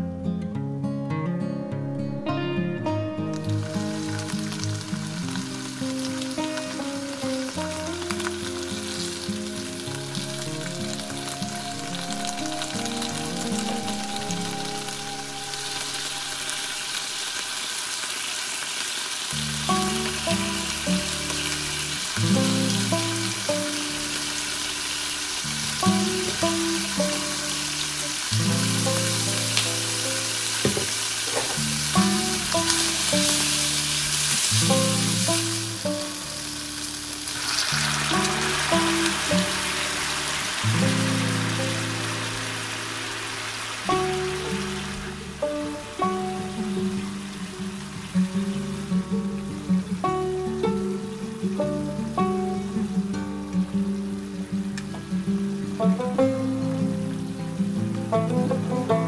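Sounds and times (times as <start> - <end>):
background music: 0.0 - 17.8, 19.4 - 59.0
meat sizzling in a frying pan: 3.4 - 53.0.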